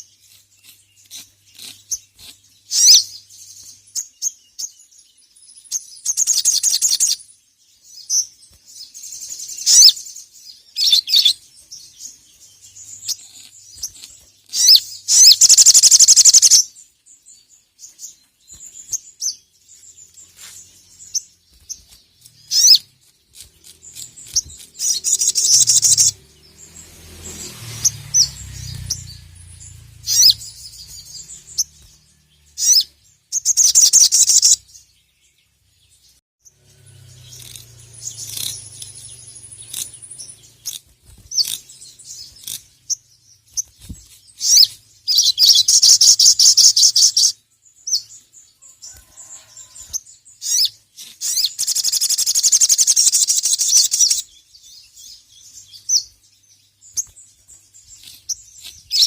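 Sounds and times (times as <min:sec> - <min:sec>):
bird chips: 0:00.0 - 0:35.0, 0:36.5 - 0:59.0
bird singing high rapid trills: 0:00.0 - 0:59.0.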